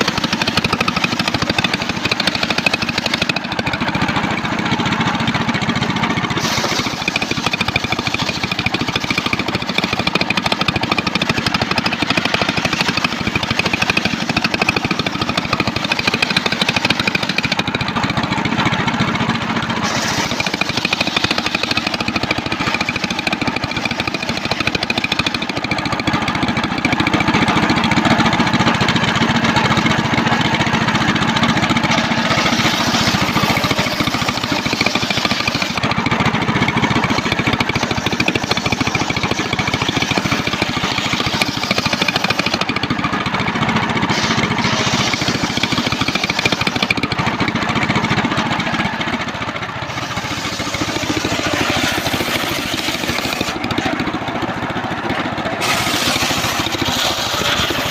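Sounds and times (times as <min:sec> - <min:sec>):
circular sawmill running: 0:00.0 - 0:57.9.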